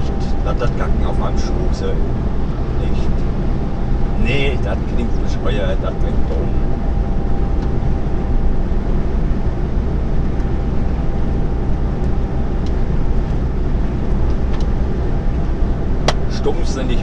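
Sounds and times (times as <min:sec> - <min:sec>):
lorry engine drone: 0:00.0 - 0:17.0
road noise: 0:00.0 - 0:17.0.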